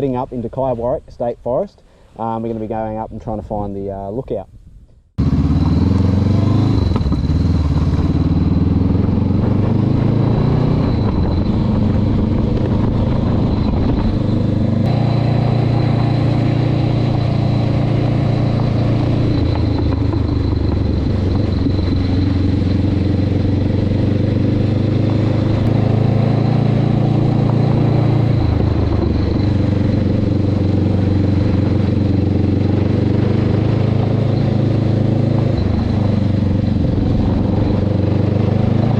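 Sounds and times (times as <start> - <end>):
motorcycle engine exhaust: 5.2 - 38.9.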